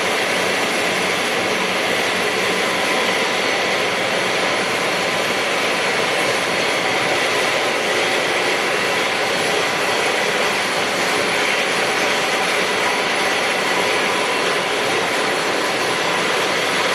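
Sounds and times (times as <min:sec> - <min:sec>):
steady machine noise: 0:00.0 - 0:16.9.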